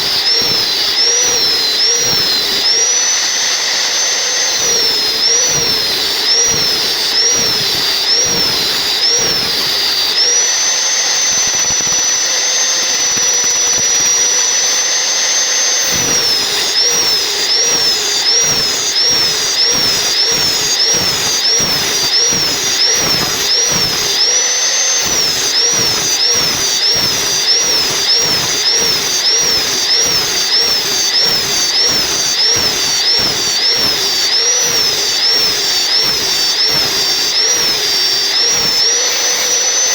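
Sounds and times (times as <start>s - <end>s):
power saw cutting log: 0.0s - 39.9s.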